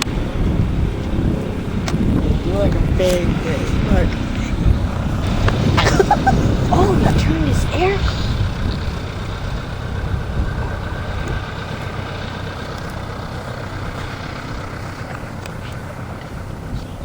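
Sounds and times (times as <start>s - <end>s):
small plane engine droning: 0.0s - 17.0s.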